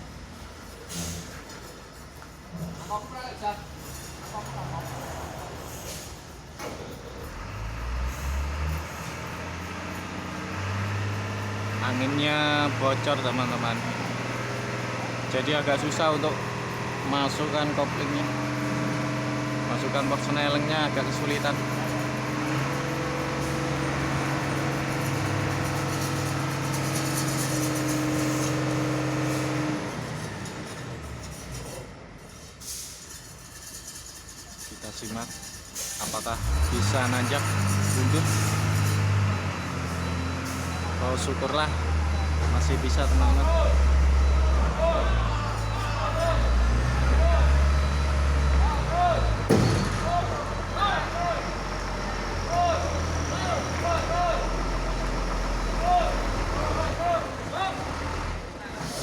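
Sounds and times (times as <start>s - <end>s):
diesel truck engine revving: 7.1s - 32.3s, 36.0s - 59.0s.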